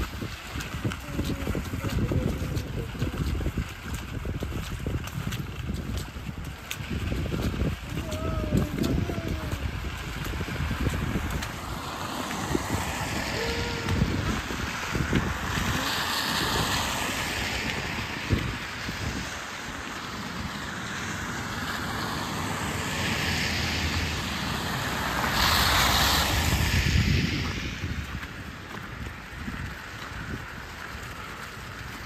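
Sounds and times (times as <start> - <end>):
car tyres hissing on wet road: 0.0 - 32.0
wind rumbling on microphone: 0.0 - 32.0.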